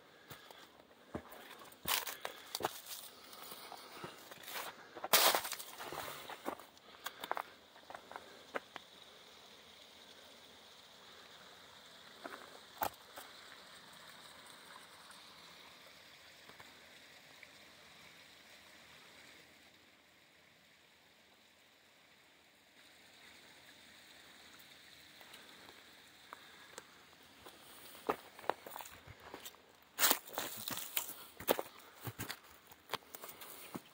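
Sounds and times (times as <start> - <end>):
faint outdoor hiss: 0.0 - 33.9.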